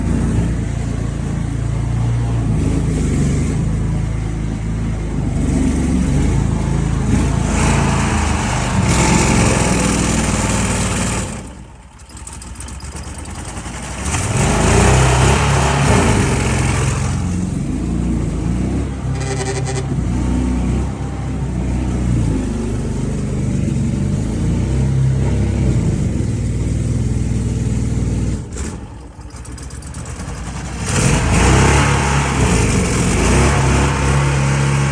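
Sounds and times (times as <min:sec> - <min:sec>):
boat motor running: 0:00.0 - 0:28.3.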